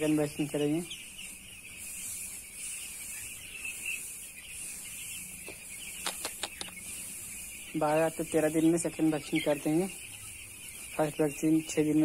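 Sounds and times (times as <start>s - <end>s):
chicks peeping: 0.0s - 12.0s
sharp loud chick chirps: 0.8s - 11.1s.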